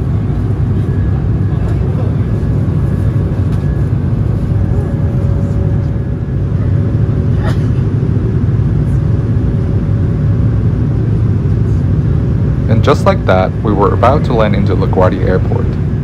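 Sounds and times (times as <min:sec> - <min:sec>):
airliner cabin engine rumble: 0:00.0 - 0:16.0
faint steady whine: 0:00.0 - 0:16.0.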